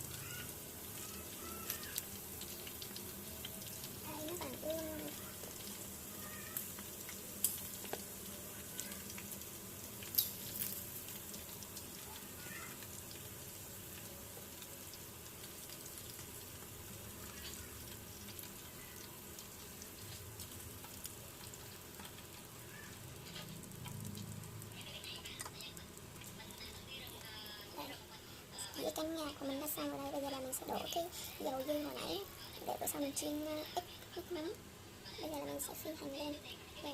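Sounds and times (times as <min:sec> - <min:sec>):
deep-frying sizzle: 0:00.0 - 0:36.9.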